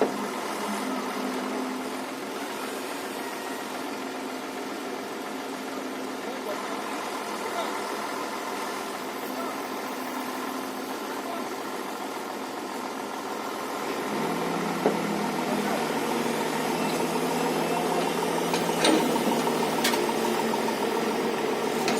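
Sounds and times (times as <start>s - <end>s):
heavy machinery engine running: 0.0s - 21.9s.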